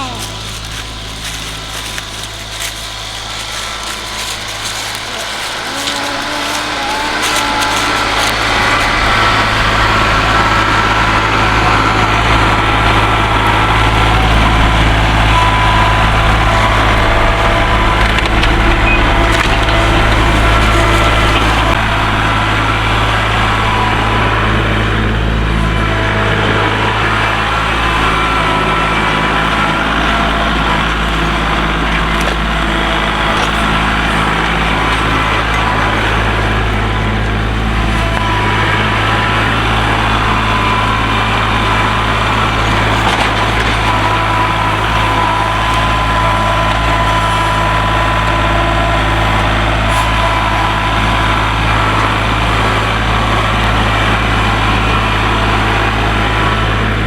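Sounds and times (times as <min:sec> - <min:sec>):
high whine: 0:00.0 - 0:57.0
tractor diesel engine running: 0:00.0 - 0:57.0.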